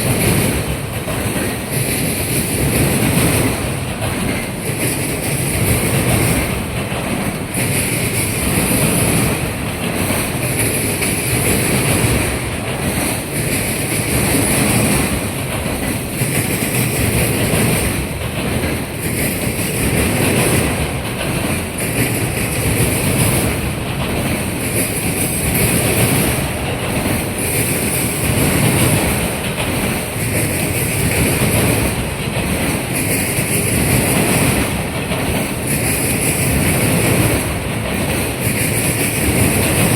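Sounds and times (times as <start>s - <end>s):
freight train wheels over crossing: 0.0s - 39.9s.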